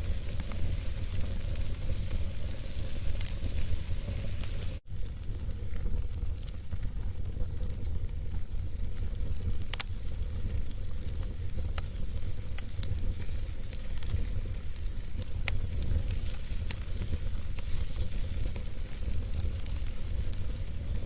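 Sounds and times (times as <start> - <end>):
burning logs crackling and popping: 0.0 - 21.0
flames rumbling and hissing: 0.0 - 21.0.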